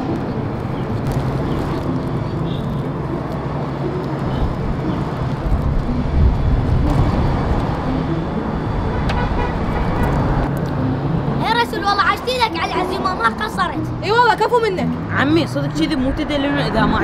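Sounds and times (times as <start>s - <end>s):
road traffic rumble: 0.0s - 17.0s
vehicle passing by: 0.0s - 17.0s.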